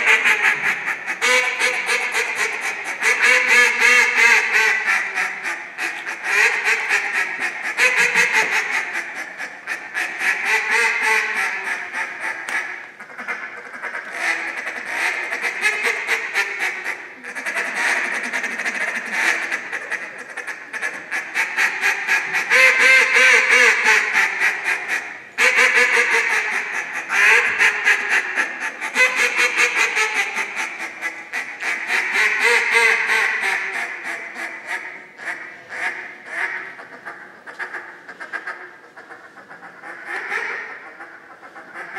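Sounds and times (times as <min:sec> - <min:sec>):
duck call quacking: 0:00.0 - 0:41.9.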